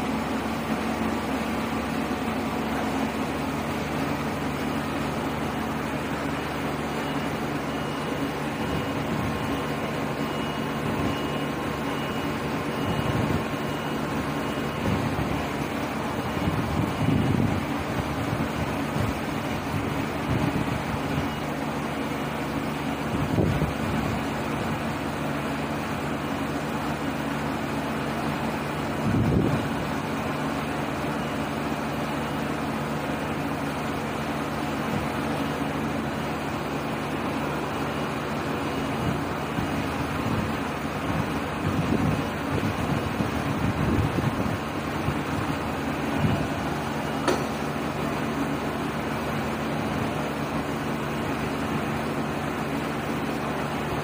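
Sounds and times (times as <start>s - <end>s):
lathe machine hum and whir: 0.0s - 54.0s.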